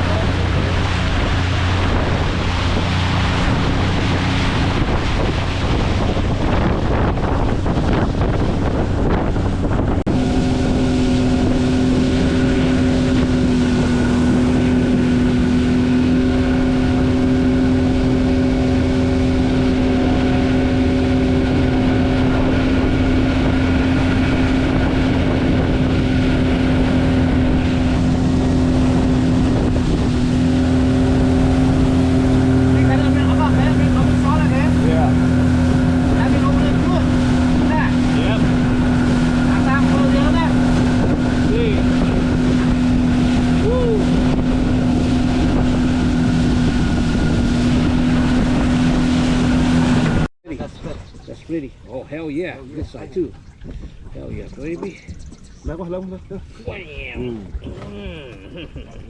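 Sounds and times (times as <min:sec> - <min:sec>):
outboard motor running: 0:00.0 - 0:59.0
water rushing past hull: 0:00.0 - 0:59.0
wind buffeting microphone: 0:00.0 - 0:59.0.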